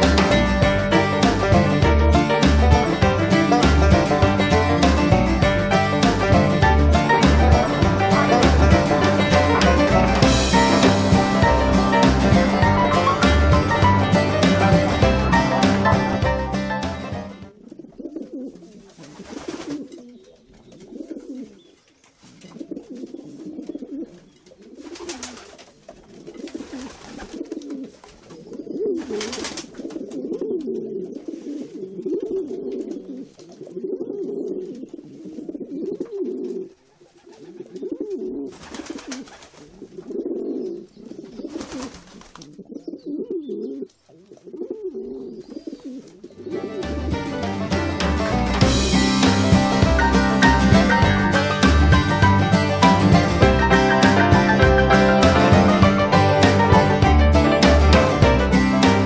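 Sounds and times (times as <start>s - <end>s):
pigeon cooing: 6.1s - 16.2s, 16.8s - 47.6s, 49.5s - 57.0s.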